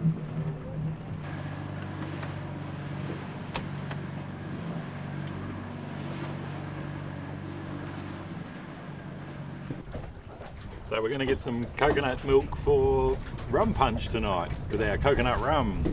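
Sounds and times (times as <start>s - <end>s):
boat engine droning: 0.0s - 15.9s.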